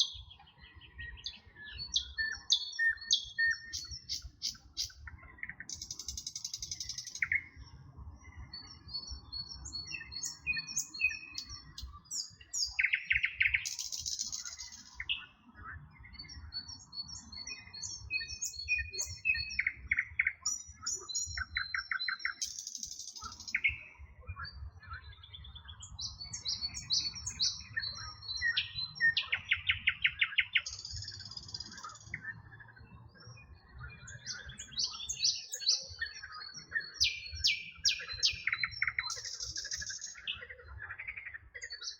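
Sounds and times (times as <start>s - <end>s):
songbirds chirping and whistling: 0.0s - 41.9s.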